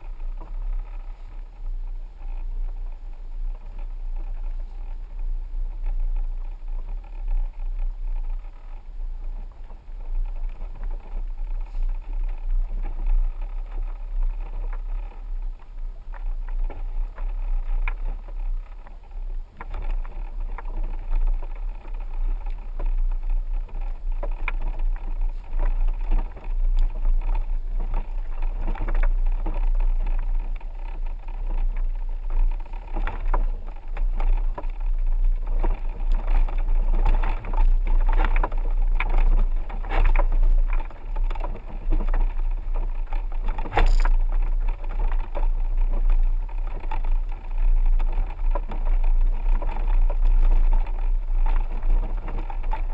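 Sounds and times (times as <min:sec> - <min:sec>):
truck engine low rumble: 0:00.0 - 0:52.9.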